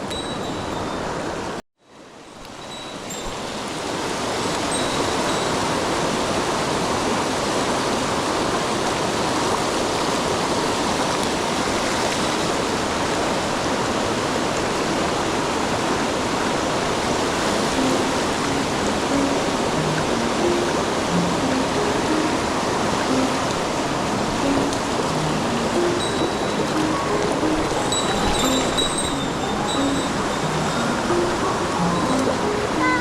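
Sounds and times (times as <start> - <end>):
mountain stream rushing: 0.1 - 33.0.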